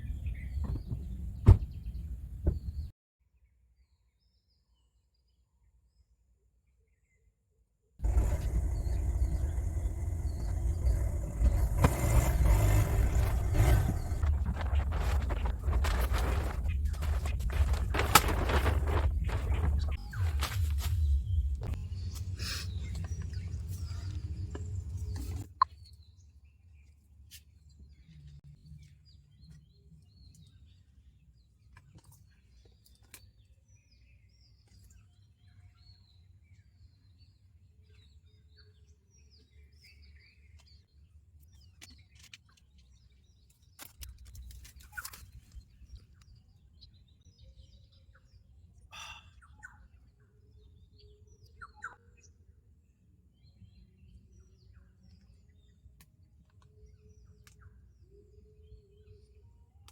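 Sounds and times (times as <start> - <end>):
forest birds chirping: 0.0 - 7.3, 8.0 - 59.5.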